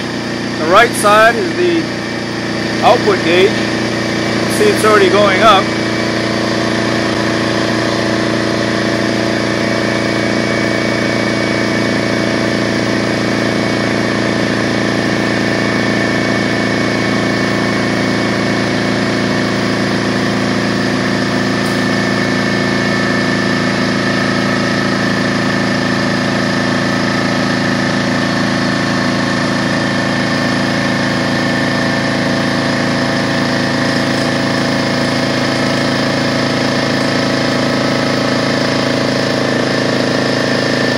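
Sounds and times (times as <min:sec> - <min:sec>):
air compressor running: 0:00.0 - 0:40.9.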